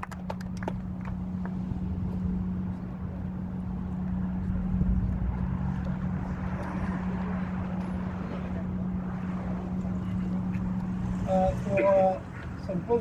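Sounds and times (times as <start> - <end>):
low engine hum: 0.0 - 13.0
vehicle passing rush: 0.0 - 13.0.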